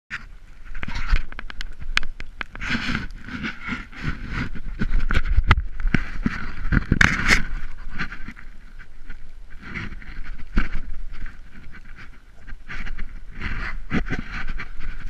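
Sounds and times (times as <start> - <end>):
wind rumble on microphone: 0.1 - 15.0.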